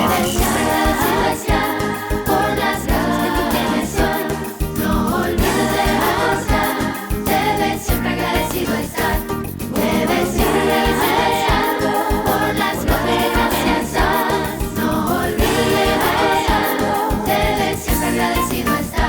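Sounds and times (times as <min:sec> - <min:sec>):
upbeat children's song: 0:00.0 - 0:19.0.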